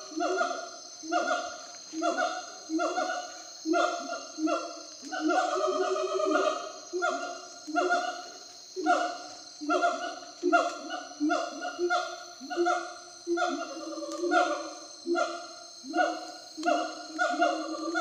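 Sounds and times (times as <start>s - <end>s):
gibbons hooting: 0.0s - 18.0s
high buzz like cicadas: 0.0s - 18.0s.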